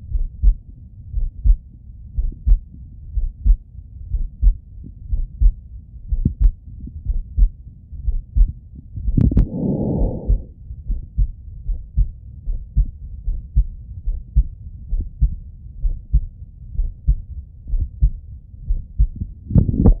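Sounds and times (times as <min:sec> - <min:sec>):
heartbeat through stethoscope: 0:00.0 - 0:20.0.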